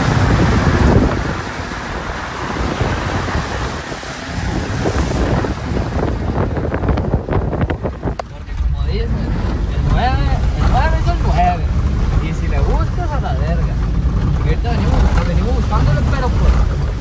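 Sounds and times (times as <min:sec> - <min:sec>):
vehicle driving: 0:00.0 - 0:17.0
wind buffeting microphone: 0:00.0 - 0:17.0.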